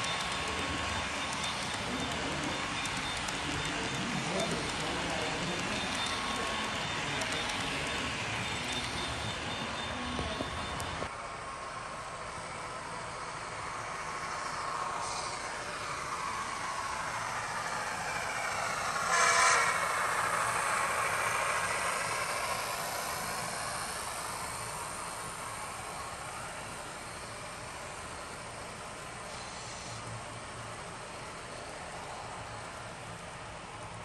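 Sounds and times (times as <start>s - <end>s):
model train wheels on track: 0.0s - 34.0s.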